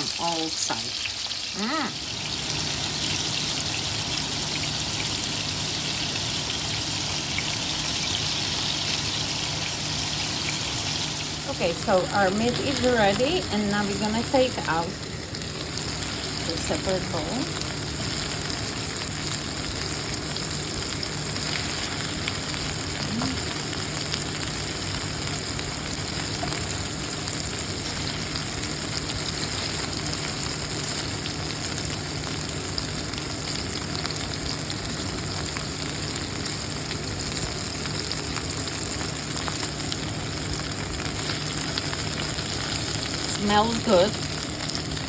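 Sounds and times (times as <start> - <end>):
chicken sizzling in a frying pan: 0.0 - 45.0.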